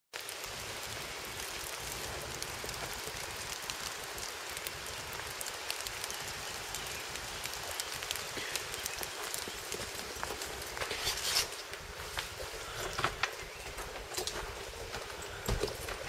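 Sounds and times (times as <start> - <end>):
steady rain falling: 0.1 - 16.0
rain drop ticks: 0.2 - 16.0.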